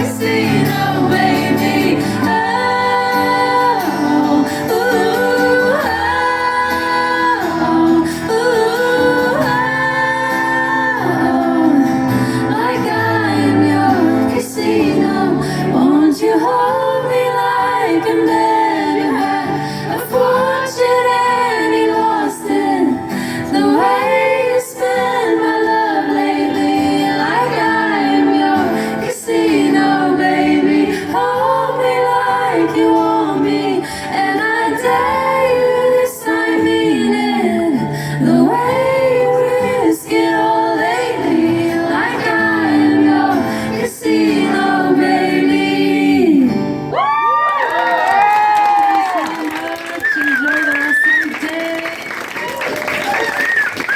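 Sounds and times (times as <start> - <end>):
woman singing: 0.0 - 52.6.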